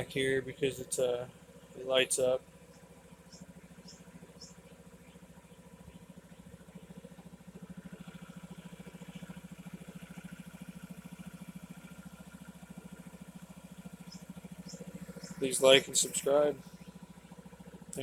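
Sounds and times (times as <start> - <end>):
scooter engine idling: 0.0 - 18.0.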